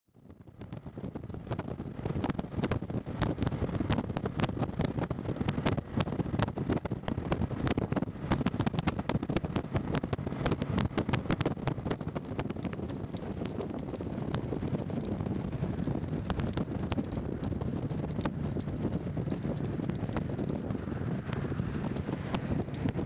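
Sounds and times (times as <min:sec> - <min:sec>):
road noise: 0:00.1 - 0:23.0
wind buffeting microphone: 0:00.1 - 0:23.0
motorcycle engine: 0:00.4 - 0:23.0.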